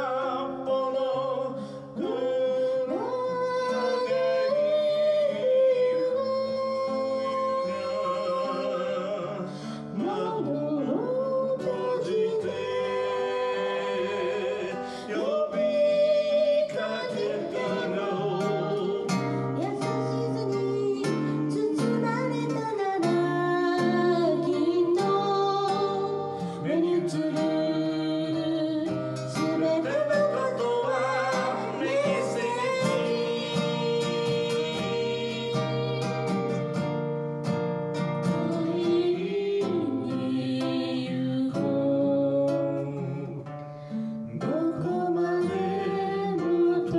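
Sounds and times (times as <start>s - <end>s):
man singing: 0.0s - 36.6s, 38.2s - 43.5s, 44.3s - 46.9s
acoustic guitar: 0.0s - 46.9s.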